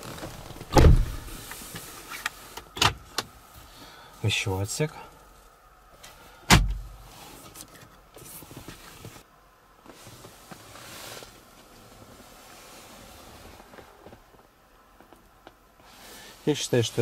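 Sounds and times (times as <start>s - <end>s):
faint handling and rustling: 0.0s - 17.0s.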